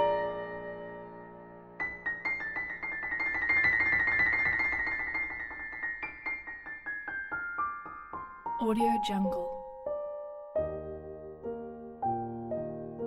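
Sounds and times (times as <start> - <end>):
solo piano: 0.0 - 13.0.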